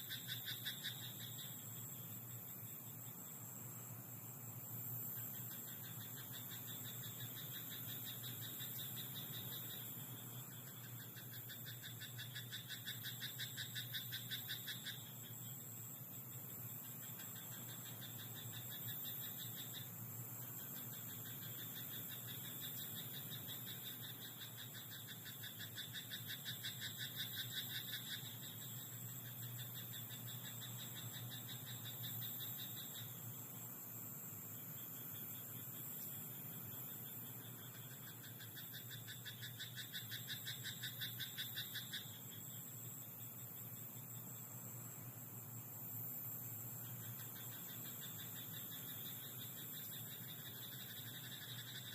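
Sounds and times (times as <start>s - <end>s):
frogs croaking: 0.0s - 51.9s.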